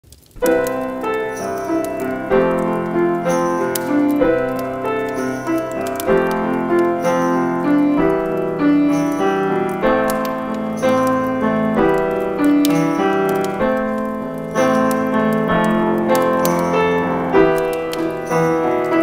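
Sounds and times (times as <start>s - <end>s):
gentle piano chords: 0.1s - 19.0s.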